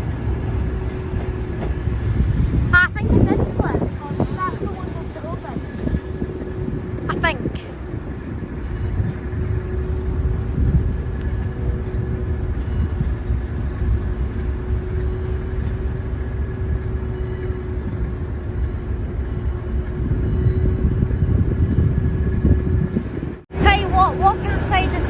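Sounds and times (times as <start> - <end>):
constant hum: 0.0 - 25.0
diesel train rumble: 0.0 - 25.0.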